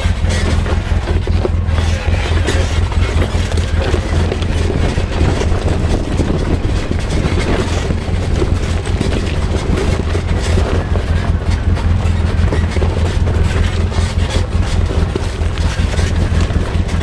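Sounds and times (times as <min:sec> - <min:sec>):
off-road vehicle engine running: 0:00.0 - 0:17.0
tires knocking on loose stone: 0:00.0 - 0:17.0.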